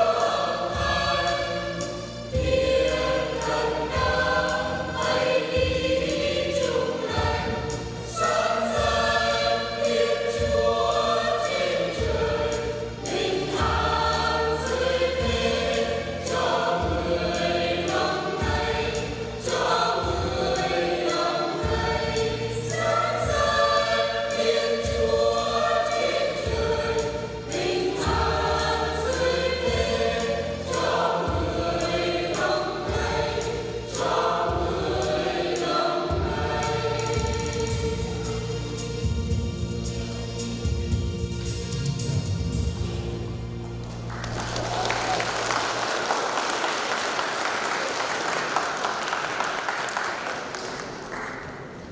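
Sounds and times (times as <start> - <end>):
instrumental accompaniment: 0.0 - 46.6
choir singing a hymn: 0.0 - 51.9.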